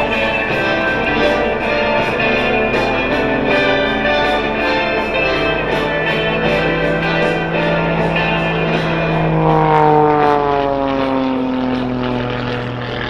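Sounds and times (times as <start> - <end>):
music with steady beat: 0.0 - 10.7
propeller plane engine droning: 0.0 - 13.0.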